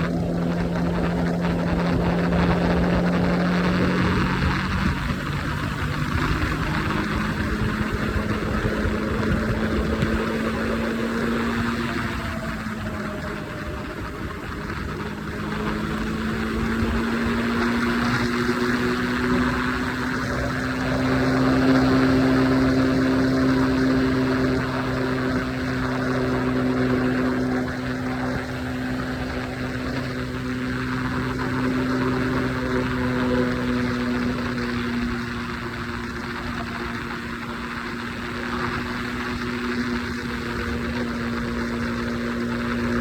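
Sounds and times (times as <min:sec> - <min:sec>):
motorcycle engine at speed: 0:00.0 - 0:43.0
wind noise: 0:00.0 - 0:43.0.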